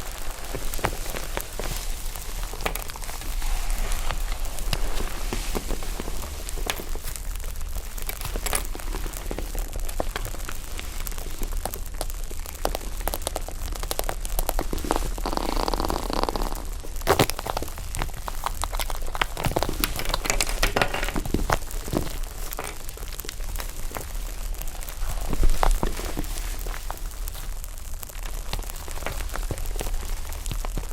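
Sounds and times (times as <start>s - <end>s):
slime crackling and popping: 0.0s - 30.9s.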